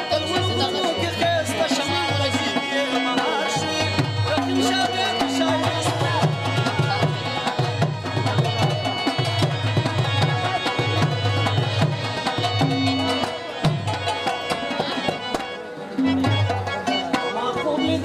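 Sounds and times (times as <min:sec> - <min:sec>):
harmonium chords: 0:00.0 - 0:18.0
tabla beat: 0:00.0 - 0:18.0.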